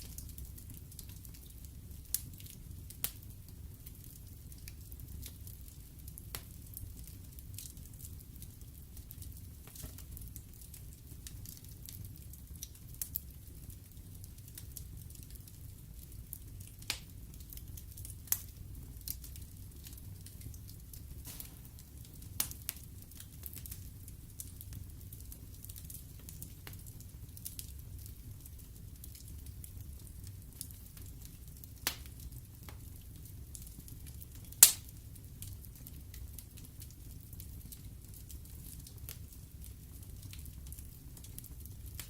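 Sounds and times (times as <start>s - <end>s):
logs crackling and popping: 0.0s - 42.0s
low rumble of flames: 0.0s - 42.0s.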